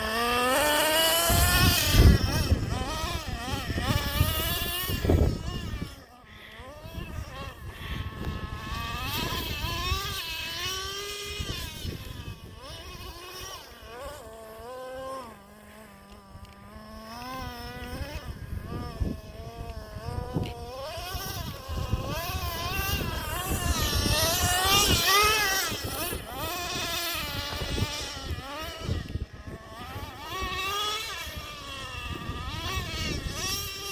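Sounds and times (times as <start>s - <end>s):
small nitro engine revving: 0.0s - 33.9s.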